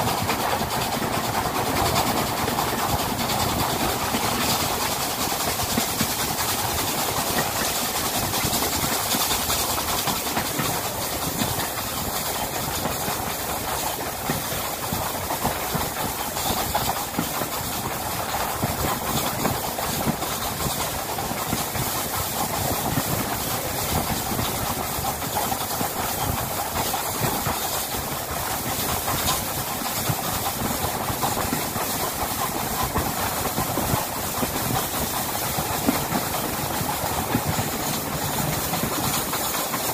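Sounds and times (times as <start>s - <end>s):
steam train running at speed: 0.0s - 39.9s.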